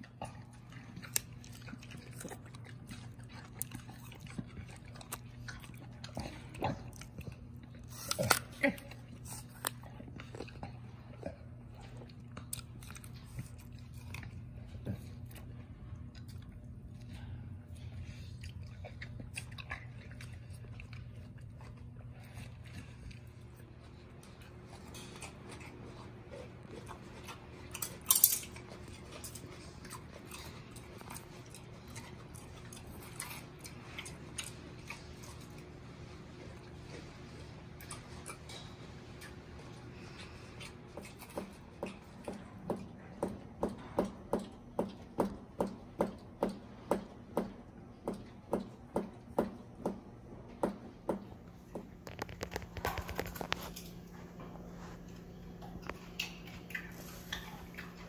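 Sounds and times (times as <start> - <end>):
chimpanzees chewing food: 0.0 - 58.0
low steady hum: 0.0 - 58.0.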